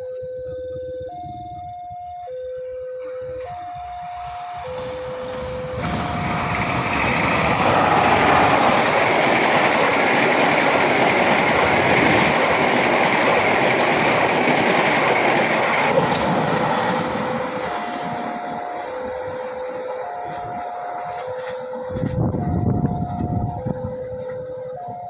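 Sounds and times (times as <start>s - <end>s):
two-tone warning alarm: 0.0s - 25.0s
train passing at speed: 3.2s - 24.9s.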